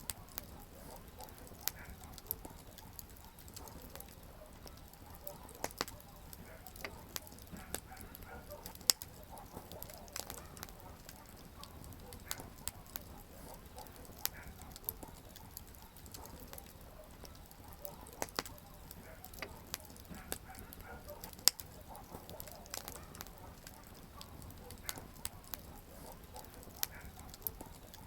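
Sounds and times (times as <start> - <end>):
campfire crackling and popping: 0.0 - 28.0
low rumble of burning wood: 0.0 - 28.0.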